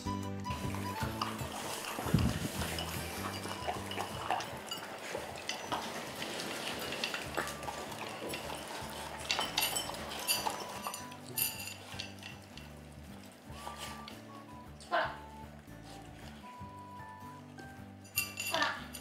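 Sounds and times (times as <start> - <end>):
soft background music: 0.0 - 19.0
dogs eating from bowls: 0.5 - 19.0.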